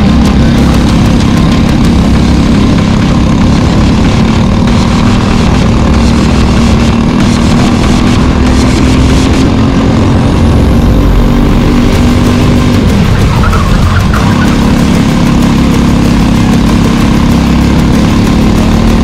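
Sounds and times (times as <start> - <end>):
kart engine revving: 0.0 - 19.0.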